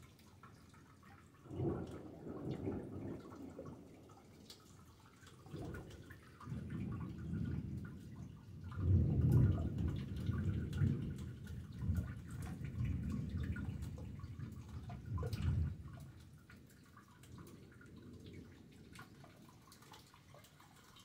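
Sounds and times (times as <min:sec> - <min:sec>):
rain dripping and pattering: 0:00.0 - 0:21.0
rolling rumble of thunder: 0:01.4 - 0:20.3.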